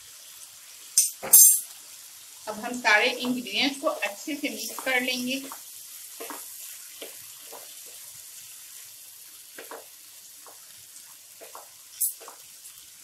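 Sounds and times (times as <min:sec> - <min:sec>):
vegetables sizzling in frying pan: 0:00.0 - 0:13.0.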